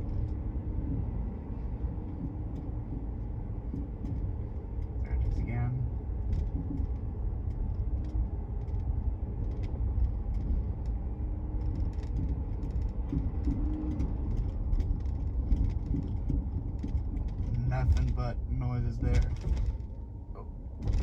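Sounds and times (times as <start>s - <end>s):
car cabin low rumble: 0.0s - 21.0s
thuds clicks and creaks: 0.0s - 21.0s.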